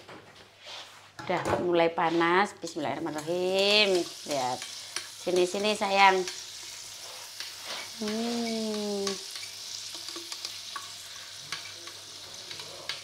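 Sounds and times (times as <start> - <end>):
spice paste sizzling in a wok: 1.9 - 13.0.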